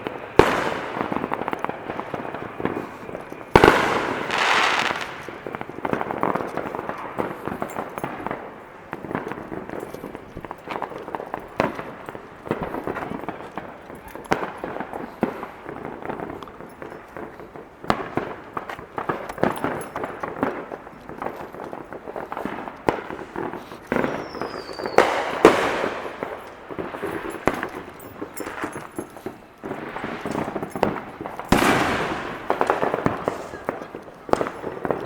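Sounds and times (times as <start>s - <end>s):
fireworks bangs and crackling: 0.0s - 35.0s.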